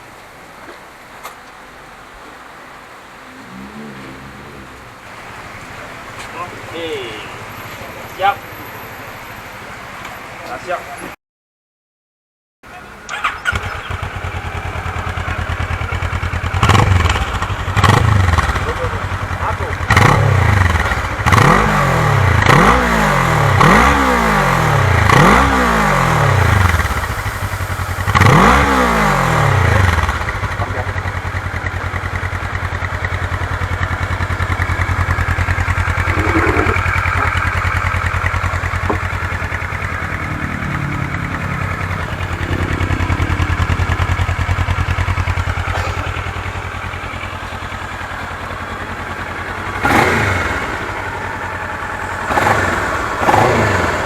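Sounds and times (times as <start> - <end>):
motorcycle engine revving and idling: 3.2 - 11.2, 12.7 - 54.0.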